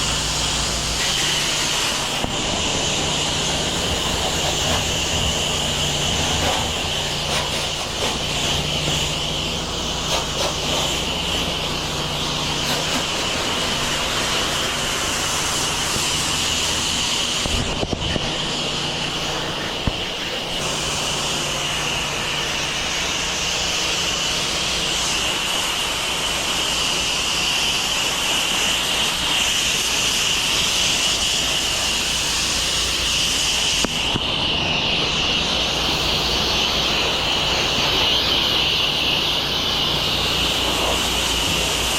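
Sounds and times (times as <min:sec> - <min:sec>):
high-pressure water spray hiss: 0:00.0 - 0:41.9
pressure washer engine running: 0:00.0 - 0:41.9.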